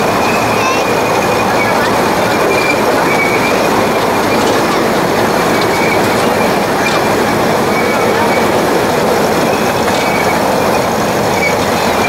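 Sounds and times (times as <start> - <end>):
train wheels rumbling on rails: 0.0 - 12.0
wheel flanges squealing: 0.0 - 12.0.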